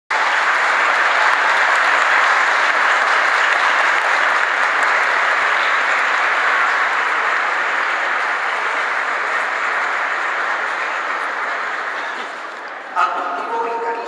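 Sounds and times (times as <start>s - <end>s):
crowd clapping: 0.1s - 14.0s.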